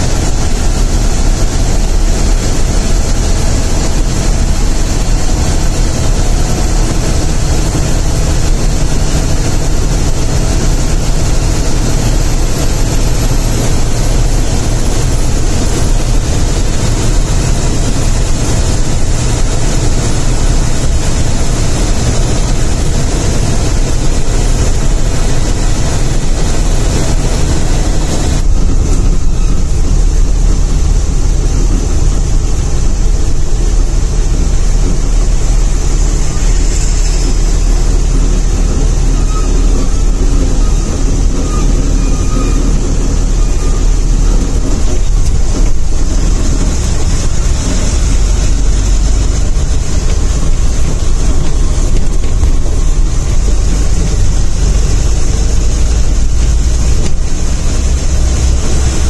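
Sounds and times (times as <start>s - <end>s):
bus engine and tyre drone: 0.0s - 59.0s.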